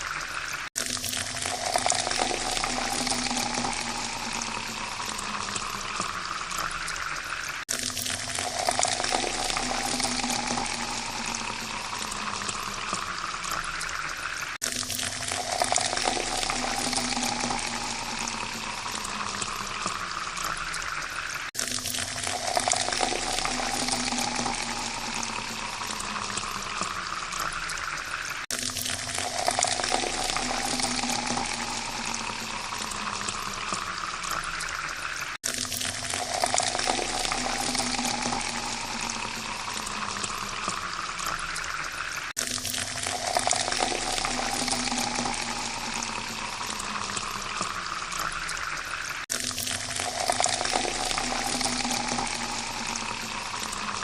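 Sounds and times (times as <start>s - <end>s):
water pouring into a glass: 0.0s - 54.0s.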